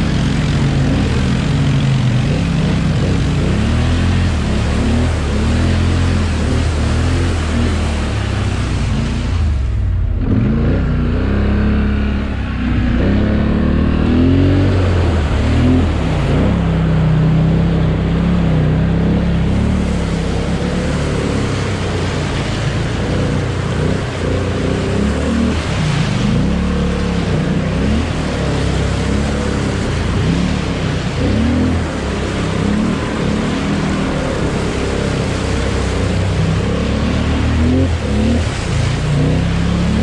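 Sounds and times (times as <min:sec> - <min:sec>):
quad bike engine revving: 0:00.0 - 0:09.6, 0:10.2 - 0:40.0
water and mud splashing: 0:00.0 - 0:40.0.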